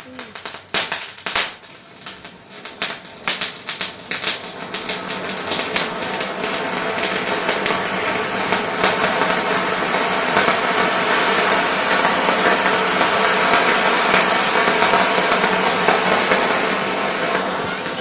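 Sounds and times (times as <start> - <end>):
fountain firework hissing sparks: 0.0 - 18.0
sharp pops: 0.0 - 18.0.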